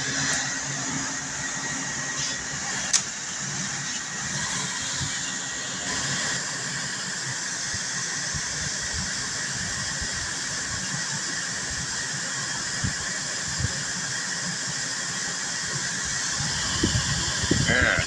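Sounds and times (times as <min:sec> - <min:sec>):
air conditioner hissing: 0:00.0 - 0:18.0.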